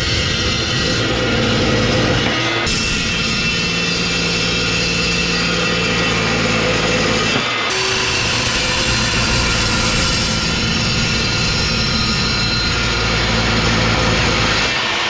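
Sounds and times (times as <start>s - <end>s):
shop heater fan and burner: 0.0s - 15.0s.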